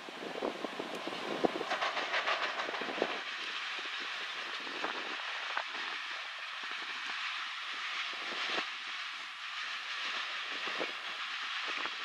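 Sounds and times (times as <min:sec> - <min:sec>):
hiss of train wheels on rails: 0:00.0 - 0:12.0.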